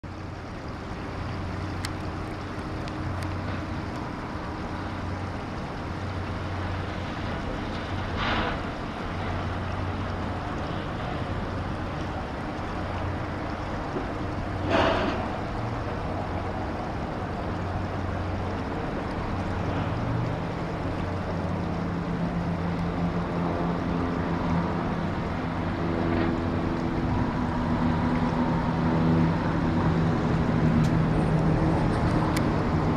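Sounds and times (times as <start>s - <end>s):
creek water rushing: 0.0s - 32.9s
wind: 0.0s - 32.9s.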